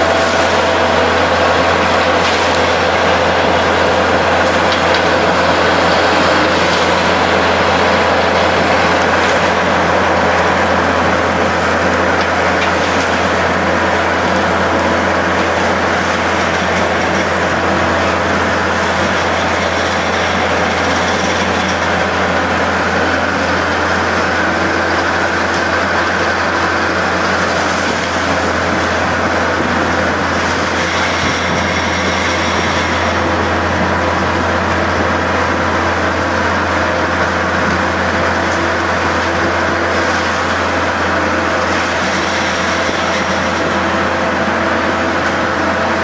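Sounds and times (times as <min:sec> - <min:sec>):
bale spreader shredding straw: 0:00.0 - 0:46.0
loader engine under load: 0:00.0 - 0:46.0.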